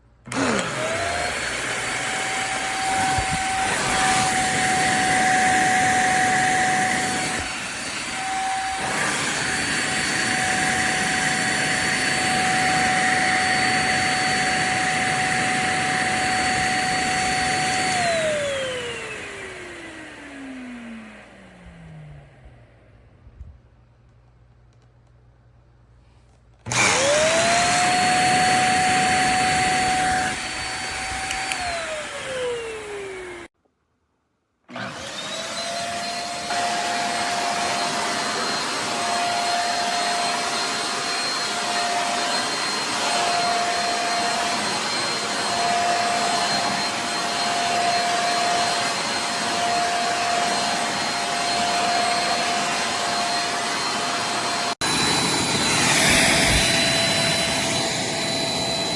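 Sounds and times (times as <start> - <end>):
handheld vacuum cleaner whining: 0.0 - 22.9, 26.6 - 33.6, 34.7 - 58.9.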